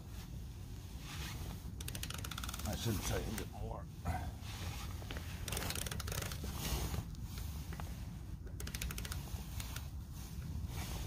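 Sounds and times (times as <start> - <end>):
low steady rumble: 0.0 - 1.9, 2.5 - 11.0.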